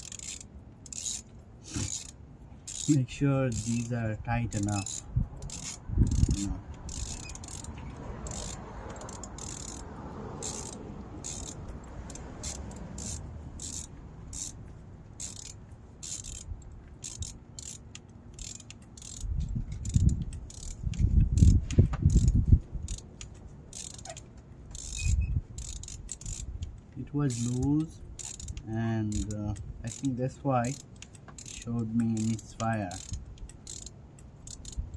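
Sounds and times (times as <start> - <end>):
ratchet wrench clicking: 0.0 - 34.9.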